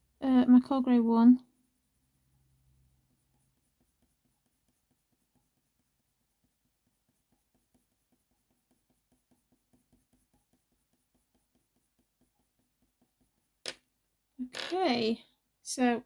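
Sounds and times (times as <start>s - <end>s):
colour pencil shading on paper: 0.0s - 13.6s.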